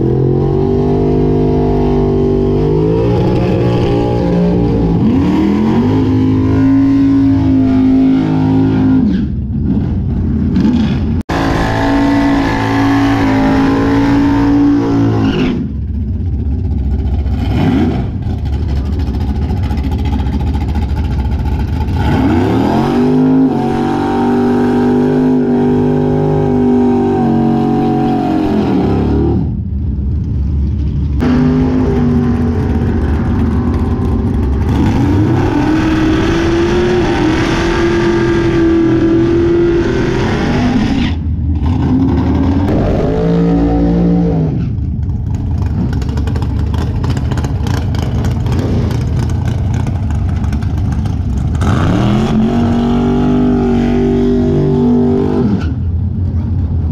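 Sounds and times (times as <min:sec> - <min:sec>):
drag-race cars doing burnouts: 0:00.0 - 0:56.9.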